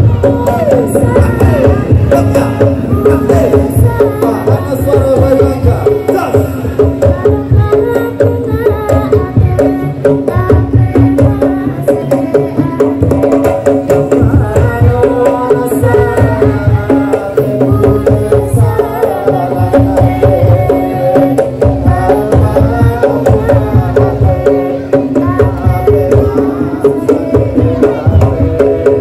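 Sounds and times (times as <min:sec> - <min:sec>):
melody over drums: 0:00.0 - 0:29.0
percussion ensemble drumming: 0:00.0 - 0:29.0.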